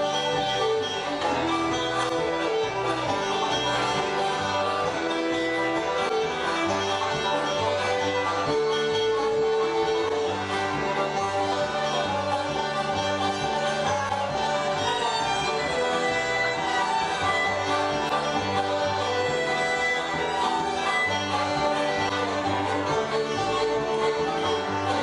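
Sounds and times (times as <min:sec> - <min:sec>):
banjo picking: 0:00.0 - 0:25.0
bluegrass band playing: 0:00.0 - 0:25.0
double bass: 0:00.0 - 0:25.0.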